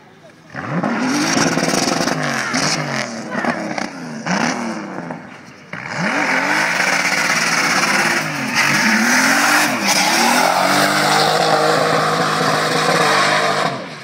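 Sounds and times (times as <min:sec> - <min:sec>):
car engine revving: 0:00.4 - 0:14.0.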